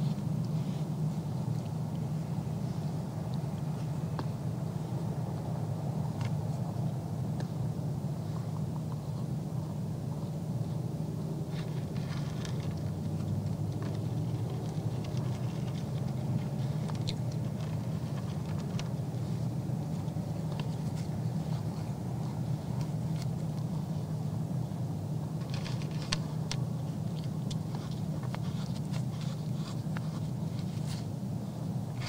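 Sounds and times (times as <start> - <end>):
deer chewing feed: 0.0 - 32.0
steady low hum: 0.0 - 32.0.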